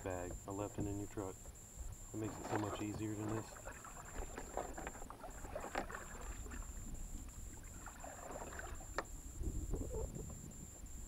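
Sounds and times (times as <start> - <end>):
low wind rumble on microphone: 0.0 - 11.0.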